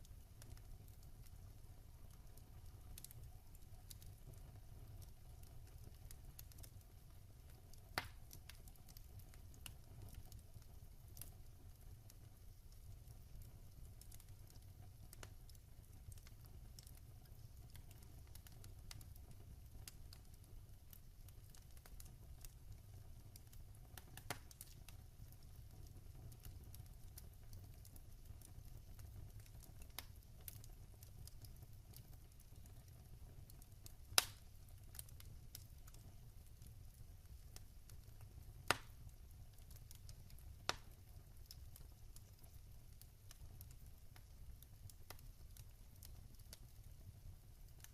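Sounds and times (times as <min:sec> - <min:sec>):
fireplace fire crackling: 0:00.0 - 0:47.9.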